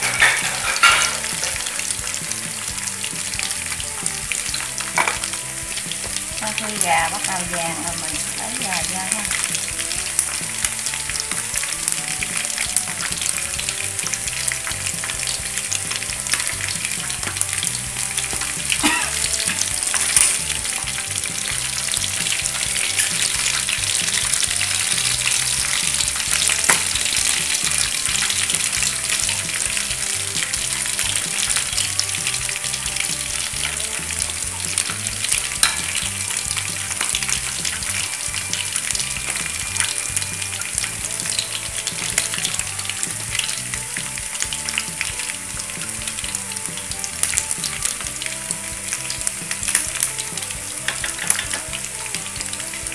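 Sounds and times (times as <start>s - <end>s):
chicken deep-frying in oil: 0.0s - 52.9s.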